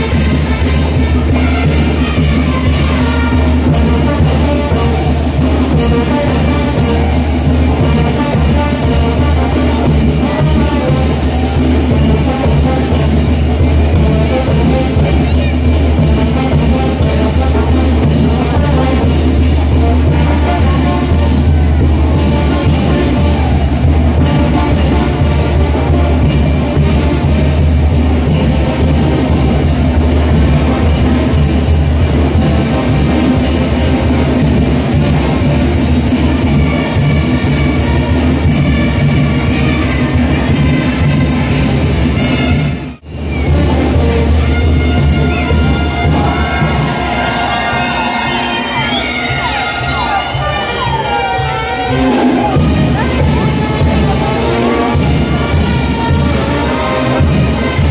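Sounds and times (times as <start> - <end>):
brass band playing dance tune: 0.0 - 57.9
drums and cymbals: 0.0 - 57.9.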